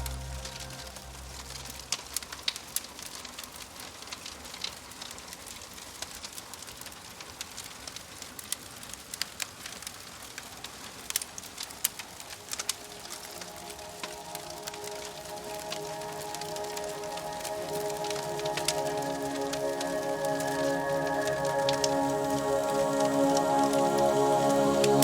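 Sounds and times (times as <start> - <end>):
log fire crackling and popping: 0.0 - 25.0
rain hiss: 0.0 - 25.0.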